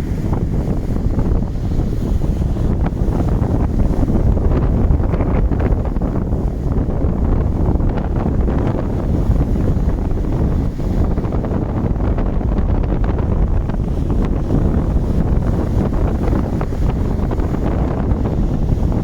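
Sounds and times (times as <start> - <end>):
ocean surf rumbling: 0.0 - 19.0
wind buffeting microphone: 0.0 - 19.0.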